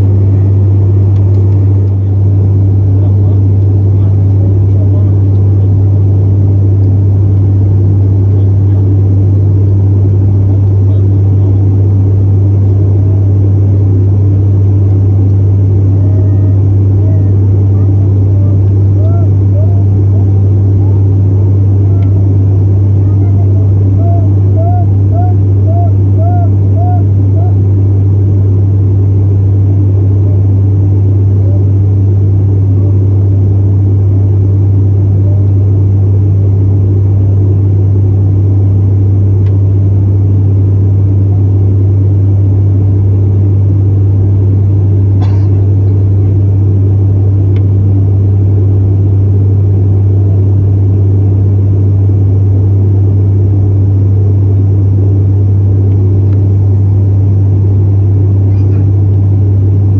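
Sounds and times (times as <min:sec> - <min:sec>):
turboprop cabin drone: 0:00.0 - 0:59.9.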